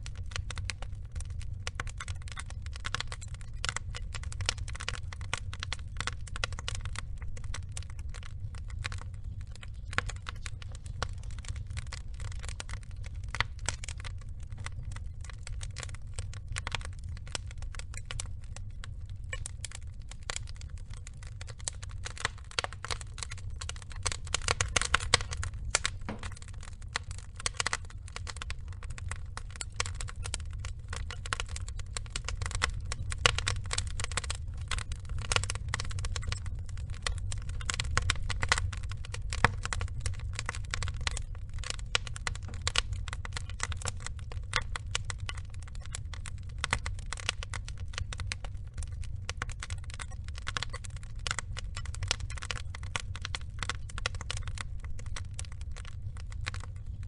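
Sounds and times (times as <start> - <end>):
burning logs crackling: 0.0 - 57.0
low rumble of fire: 0.0 - 57.0.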